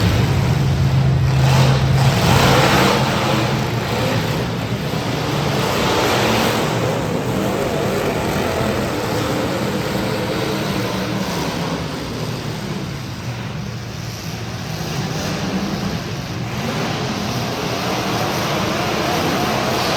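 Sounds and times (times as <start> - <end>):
car engines revving: 0.0 - 19.9.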